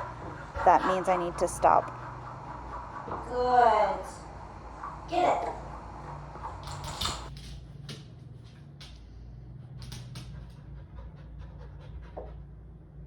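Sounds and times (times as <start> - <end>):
dog panting: 0.0 - 7.3, 9.6 - 13.0.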